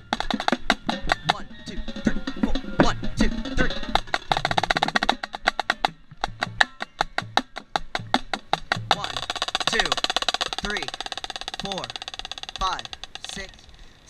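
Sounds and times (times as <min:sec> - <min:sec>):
low drum beats: 0:00.0 - 0:13.6
marching snare drum strokes: 0:00.0 - 0:13.6.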